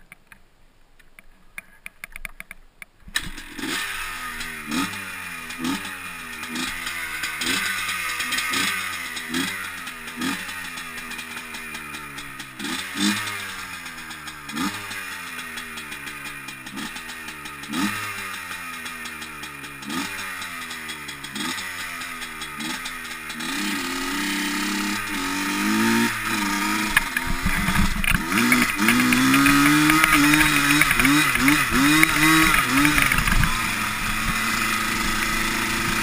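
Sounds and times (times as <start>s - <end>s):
atv engine revving: 3.1s - 36.0s.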